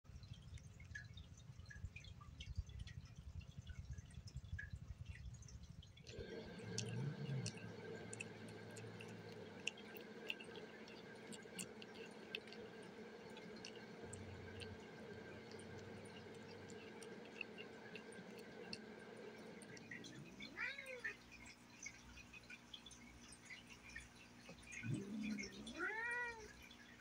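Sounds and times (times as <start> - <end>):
low background hum: 0.1 - 27.0
kitten licking and chewing: 0.2 - 26.6.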